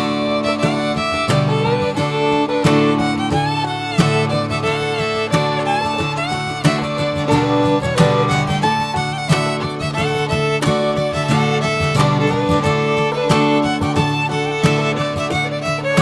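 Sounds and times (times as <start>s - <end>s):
strummed guitar: 0.0s - 16.0s
upbeat fiddle melody: 0.0s - 16.0s.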